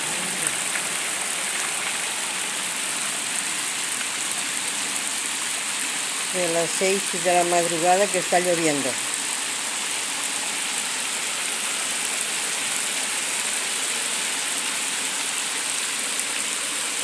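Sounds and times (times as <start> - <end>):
floodwater rushing: 0.0 - 17.0
torrential rain: 0.0 - 17.0.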